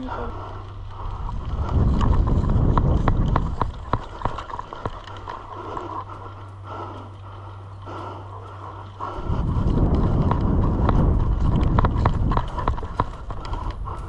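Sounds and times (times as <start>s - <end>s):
low microphone rumble: 0.0s - 14.0s
running footsteps: 0.0s - 14.0s.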